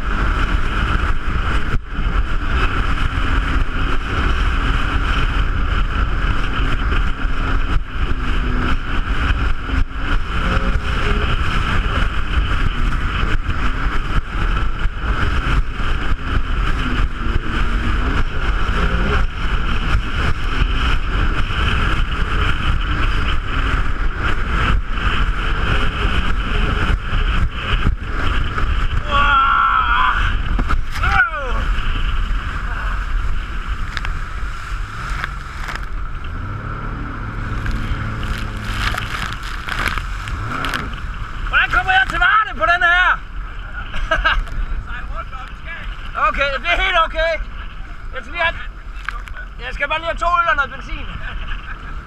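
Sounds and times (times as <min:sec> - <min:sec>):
jet ski engine drone: 0:00.0 - 0:52.0
wind rumbling on microphone: 0:00.0 - 0:52.0.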